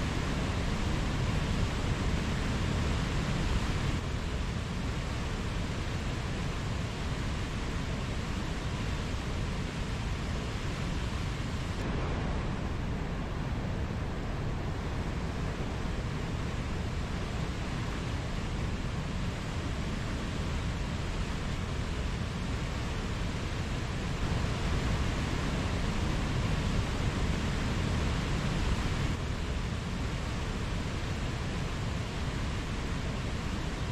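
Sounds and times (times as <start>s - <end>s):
mountain stream flowing: 0.0s - 33.9s.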